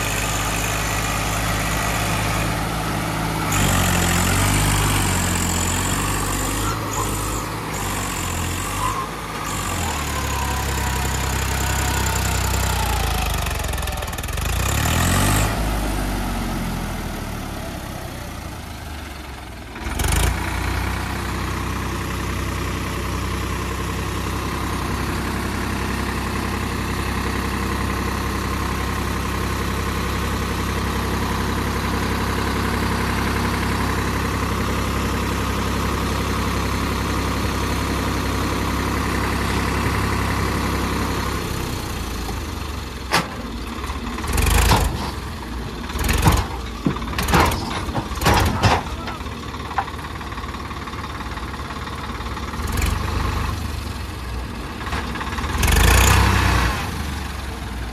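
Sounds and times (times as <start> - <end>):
tractor diesel engine revving: 0.0 - 57.9.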